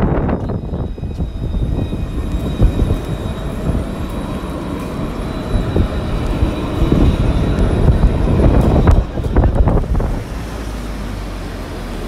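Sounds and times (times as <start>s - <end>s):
tram rumbling with high whine: 0.0s - 12.0s.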